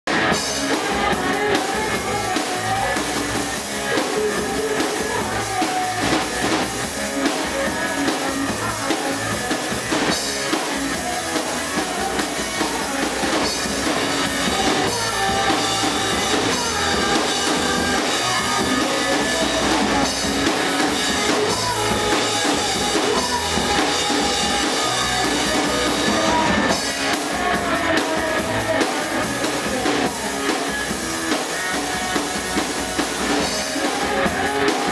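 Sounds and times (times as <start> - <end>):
drum kit: 0.0 - 34.9
electric guitar: 0.1 - 34.9
woman singing: 0.4 - 34.9.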